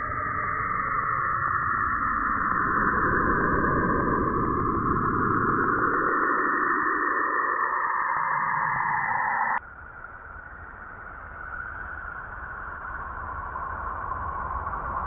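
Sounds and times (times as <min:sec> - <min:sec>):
eerie hiss: 0:00.0 - 0:15.0.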